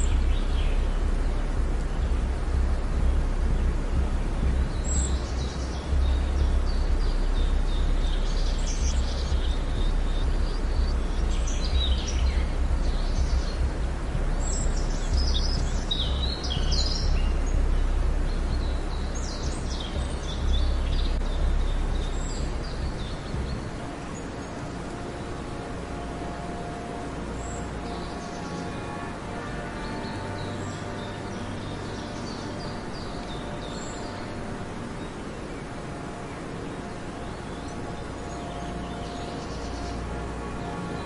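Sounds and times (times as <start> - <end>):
birds chirping: 0.0 - 41.0
steady low rumble: 0.0 - 41.0.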